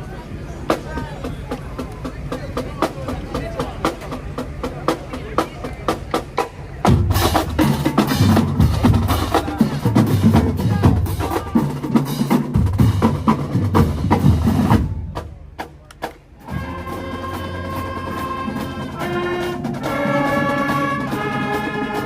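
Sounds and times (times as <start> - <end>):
marching drumline on snare and bass: 0.6 - 22.0.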